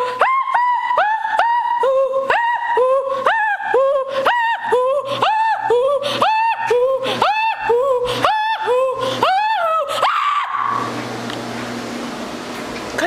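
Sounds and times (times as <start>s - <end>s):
person yodeling wordlessly: 0.0s - 10.8s.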